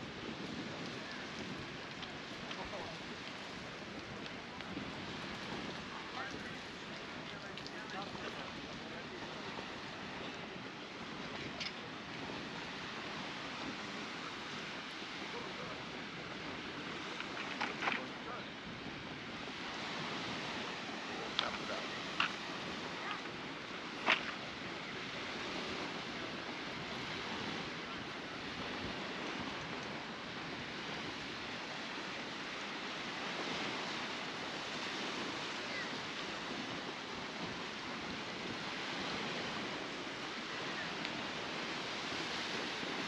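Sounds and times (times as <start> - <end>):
waves washing onto beach: 0.0 - 43.0.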